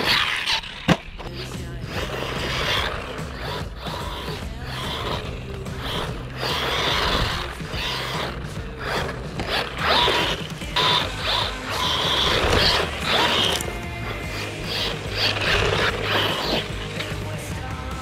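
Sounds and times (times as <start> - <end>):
toy car motor whirring: 0.0 - 18.0.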